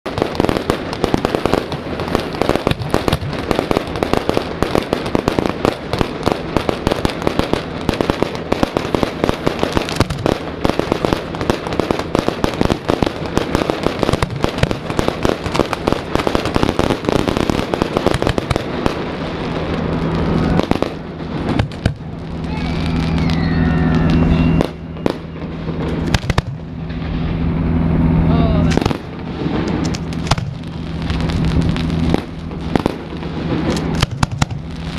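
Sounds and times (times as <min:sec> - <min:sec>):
fireworks booming and crackling: 0:00.0 - 0:34.9.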